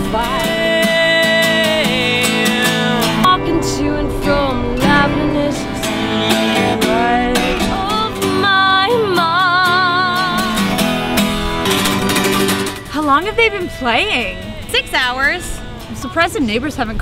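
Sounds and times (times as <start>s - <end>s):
person singing a melody: 0.0s - 12.1s, 12.8s - 16.3s
acoustic guitar strumming: 0.0s - 17.0s.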